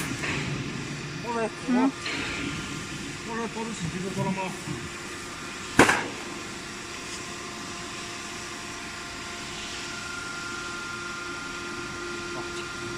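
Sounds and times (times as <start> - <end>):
machinery humming: 0.0 - 12.9.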